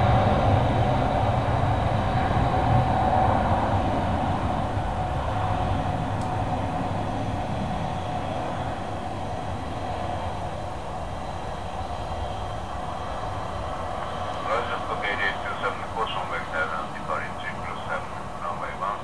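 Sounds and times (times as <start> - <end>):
jet engine rumble with whine: 0.0 - 19.0.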